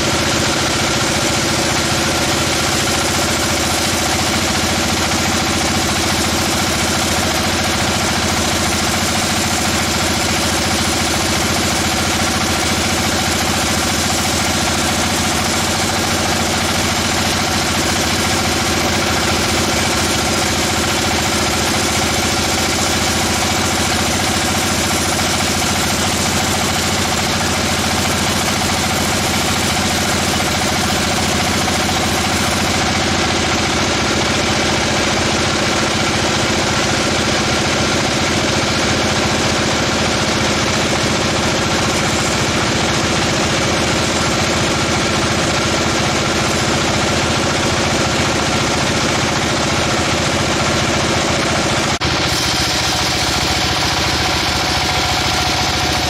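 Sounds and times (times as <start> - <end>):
sawmill machinery droning: 0.0 - 56.0.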